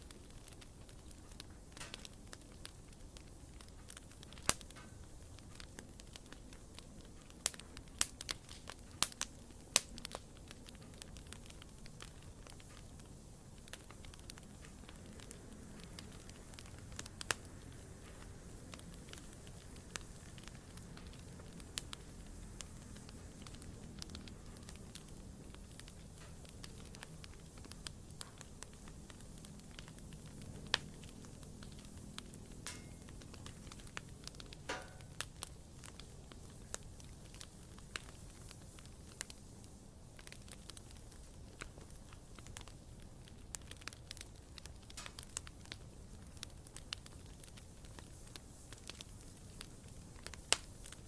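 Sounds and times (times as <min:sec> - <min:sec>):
campfire crackling: 0:00.0 - 0:51.0.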